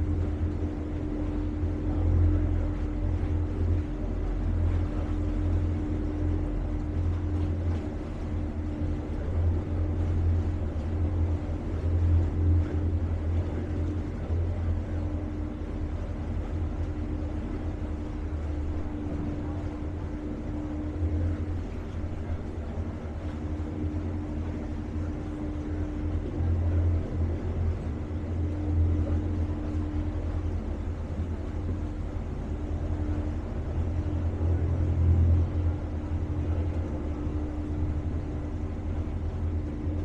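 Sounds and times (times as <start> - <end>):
boat motor droning: 0.0 - 40.0
steady hum: 0.0 - 40.0.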